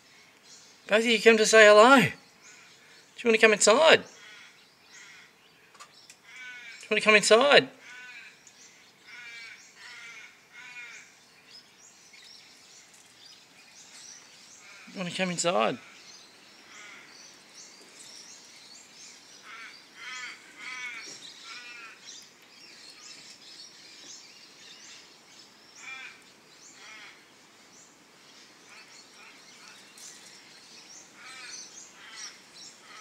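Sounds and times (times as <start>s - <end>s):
high wavering bird calls: 0.0s - 33.0s.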